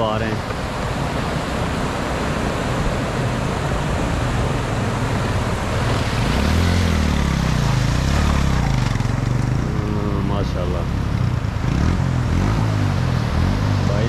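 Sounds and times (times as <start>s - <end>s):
mountain stream rushing: 0.0s - 14.0s
vehicle engine revving: 0.0s - 14.0s.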